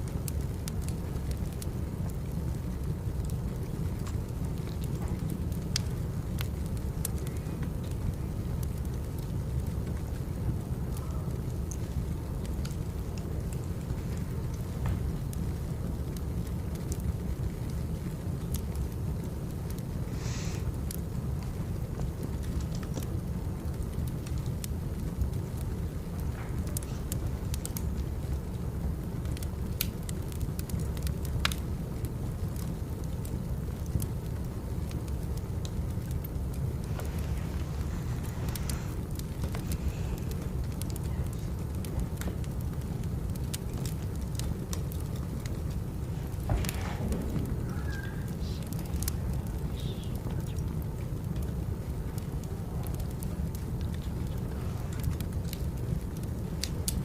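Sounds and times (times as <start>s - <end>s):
fire low rumble: 0.0s - 57.0s
wood fire crackling and popping: 0.0s - 57.0s.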